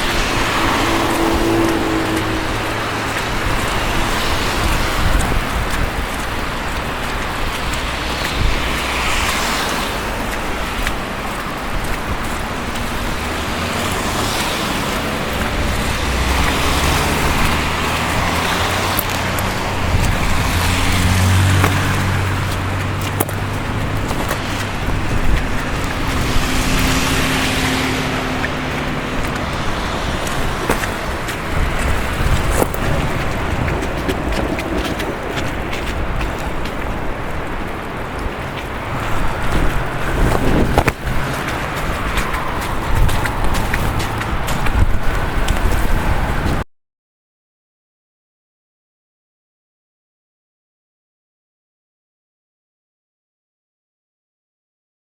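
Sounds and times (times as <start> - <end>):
cars passing with tyre hiss: 0.0 - 46.6
low engine hum: 0.0 - 46.6.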